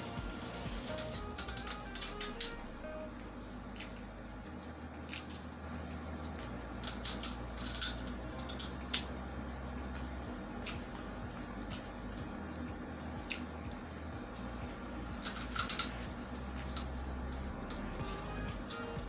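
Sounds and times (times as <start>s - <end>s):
wet squishy chewing: 1.0s - 7.4s, 8.5s - 18.8s.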